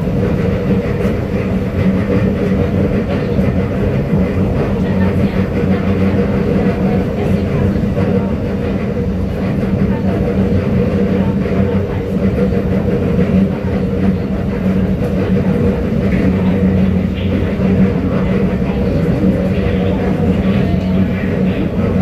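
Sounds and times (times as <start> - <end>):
steady hum: 0.0 - 22.0
train wheels rumbling on rails: 0.0 - 22.0.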